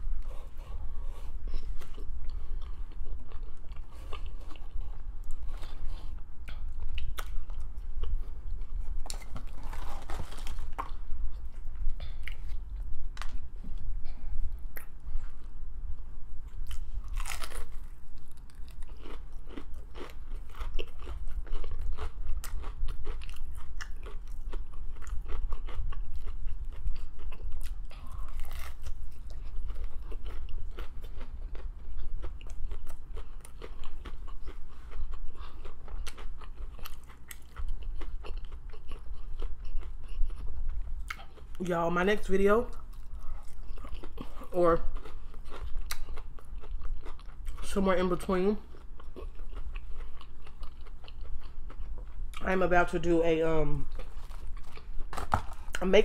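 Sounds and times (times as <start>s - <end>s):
chewing crispy food: 0.0s - 13.8s, 16.6s - 56.0s.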